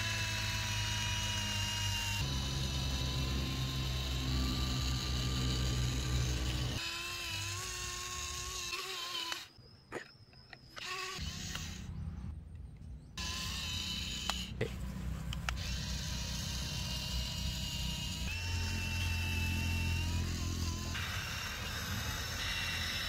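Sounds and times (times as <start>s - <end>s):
small electric motor whirring: 0.0s - 9.6s, 10.5s - 12.3s, 13.2s - 23.0s.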